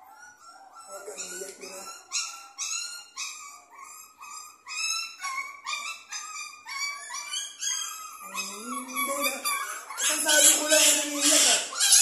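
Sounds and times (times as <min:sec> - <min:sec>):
puppy yelping: 0:00.0 - 0:12.0.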